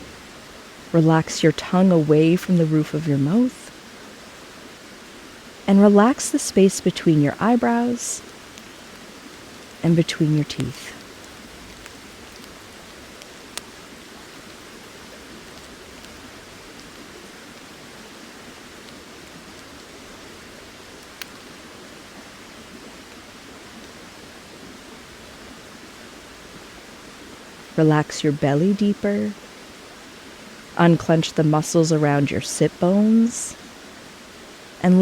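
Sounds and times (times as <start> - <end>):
falling rain: 0.0 - 35.0
flowing river: 0.0 - 35.0.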